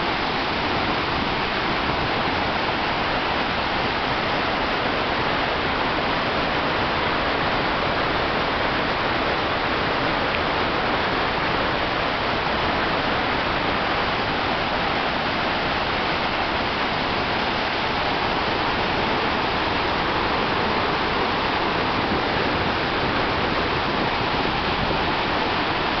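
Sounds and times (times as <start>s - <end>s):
white water roaring: 0.0s - 26.0s.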